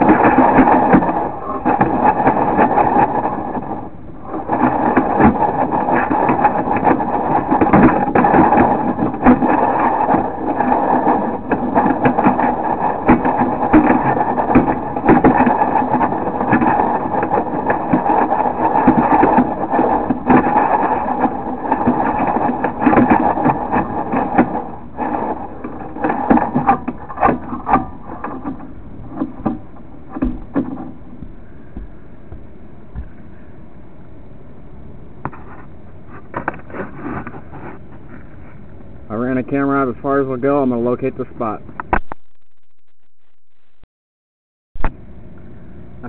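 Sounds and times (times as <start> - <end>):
cable rattling and scraping in pipe: 0.0 - 33.4, 35.3 - 42.2
faint steady hum: 0.0 - 43.8, 44.8 - 46.0.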